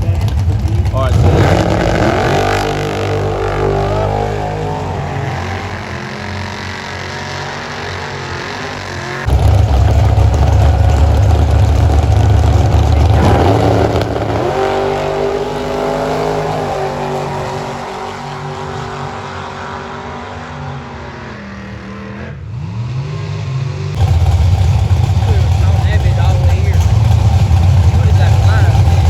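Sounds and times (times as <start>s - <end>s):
drag racing car engines rumbling: 0.0s - 29.0s.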